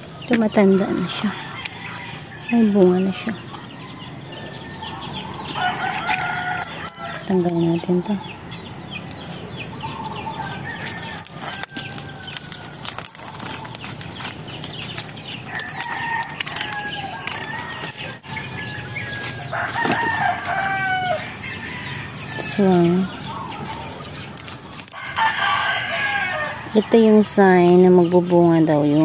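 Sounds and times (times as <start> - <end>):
roosters crowing: 0.0 - 28.0
small birds chirping: 0.0 - 29.0.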